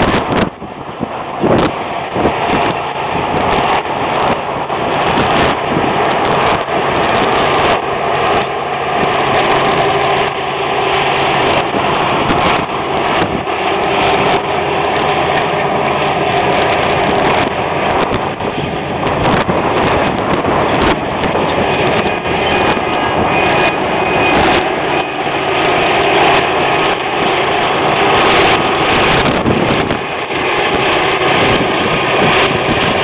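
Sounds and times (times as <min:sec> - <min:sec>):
combine harvester engine drone: 0:00.0 - 0:33.0.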